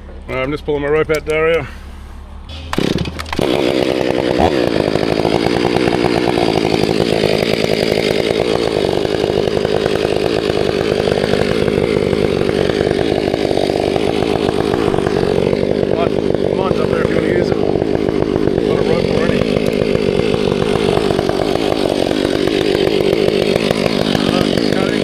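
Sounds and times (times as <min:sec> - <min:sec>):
chainsaw running: 0:02.7 - 0:25.0.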